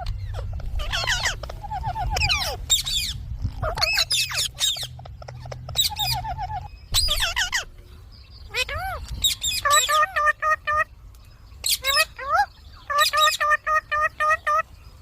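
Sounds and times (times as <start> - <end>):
steady low rumble: 0.0 - 12.9
parrot chattering and squawking: 0.1 - 7.7, 8.5 - 10.9, 11.6 - 14.6.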